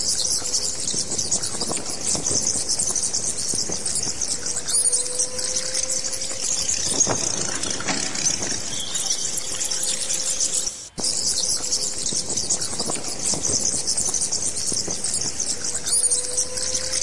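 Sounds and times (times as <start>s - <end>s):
bats squeaking and chattering: 0.0s - 17.0s.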